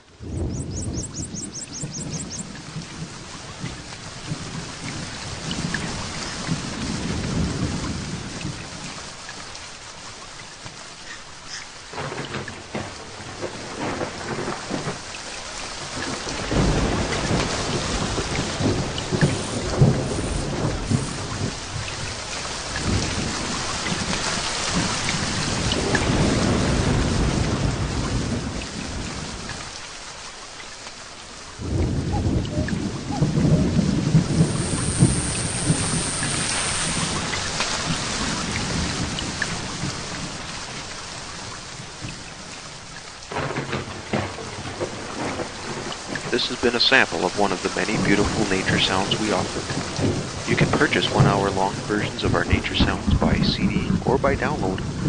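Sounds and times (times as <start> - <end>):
heavy rain: 0.0 - 55.0
thunder rumbling: 0.1 - 9.0, 11.9 - 29.5, 31.6 - 55.0.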